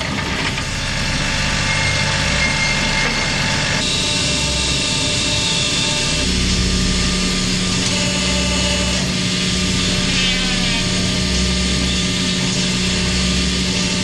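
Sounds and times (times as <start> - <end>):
waste baler machine humming: 0.0 - 14.0
dull low throb: 0.5 - 14.0.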